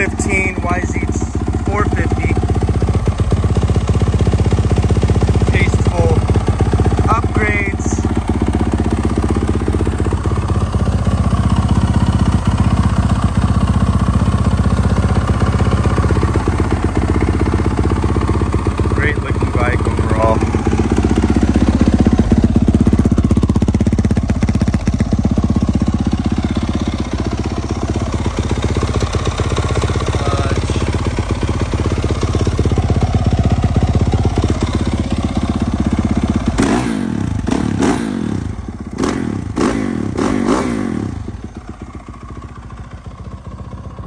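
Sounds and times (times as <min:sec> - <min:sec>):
motorcycle engine idling and revving: 0:00.0 - 0:44.0.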